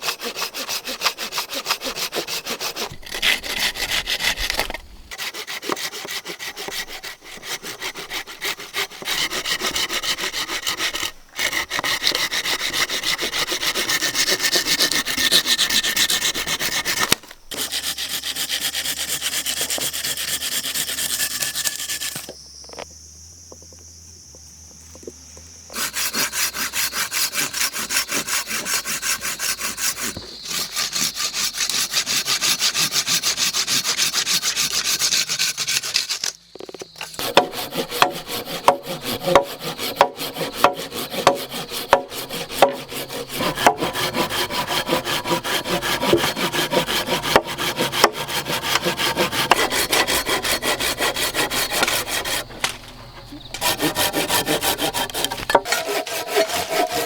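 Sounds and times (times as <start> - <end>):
hand sawing on wood: 0.0 - 22.3, 25.7 - 36.3, 37.1 - 57.0.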